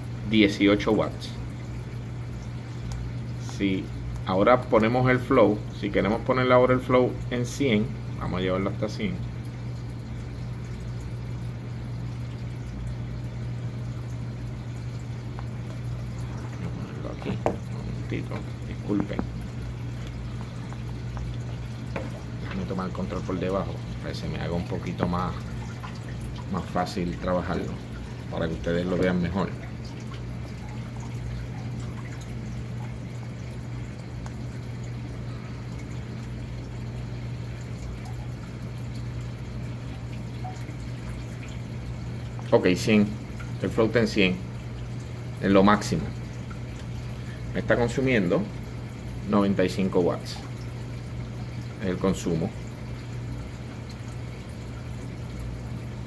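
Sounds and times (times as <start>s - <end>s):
aquarium pump humming: 0.0s - 56.0s
water churning: 0.0s - 56.0s.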